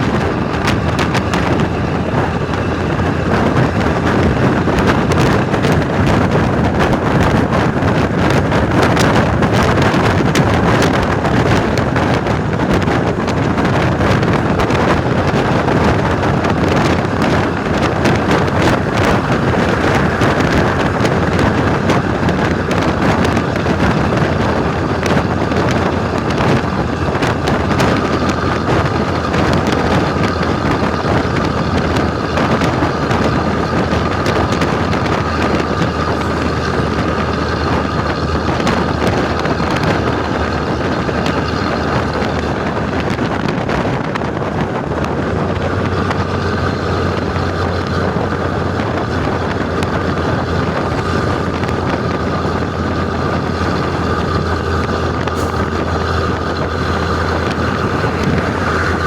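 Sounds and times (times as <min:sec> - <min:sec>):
diesel bus engine droning: 0:00.0 - 0:59.0
wind buffeting microphone: 0:00.0 - 0:59.0.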